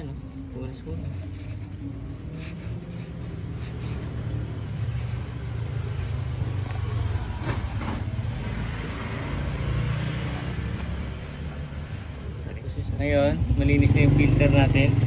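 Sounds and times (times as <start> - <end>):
motor vehicle engine rumbling: 0.0 - 14.9.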